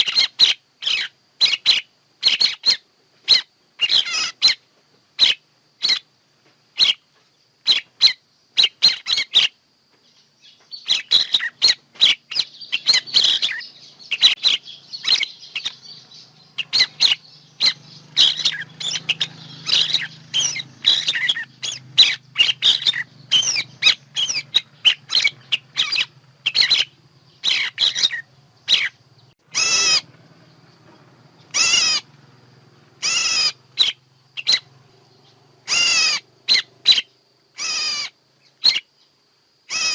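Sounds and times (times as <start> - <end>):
birds chirping: 0.0 - 39.9
wavering bird calls: 0.0 - 39.9.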